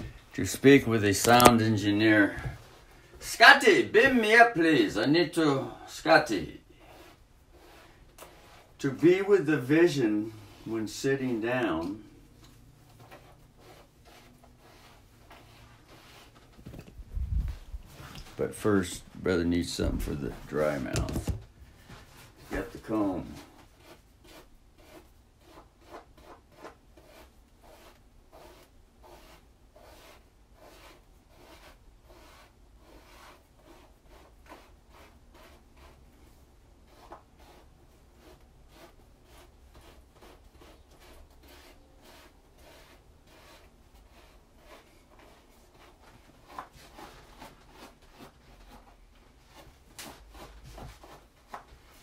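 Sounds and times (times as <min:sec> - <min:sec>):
comb scratching through hair: 0:01.2 - 0:01.7, 0:06.8 - 0:18.4, 0:22.2 - 0:52.0.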